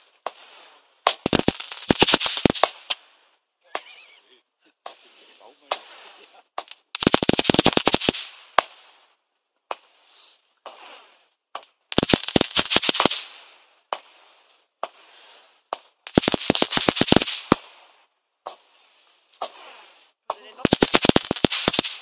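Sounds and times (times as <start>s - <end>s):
fireworks bangs: 0.0s - 22.0s
fireworks hissing and crackling: 0.0s - 22.0s.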